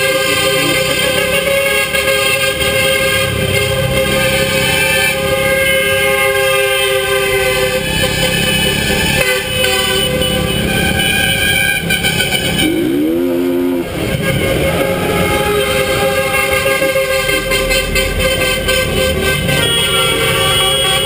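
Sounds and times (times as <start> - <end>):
vehicle horns honking: 0.0 - 21.0.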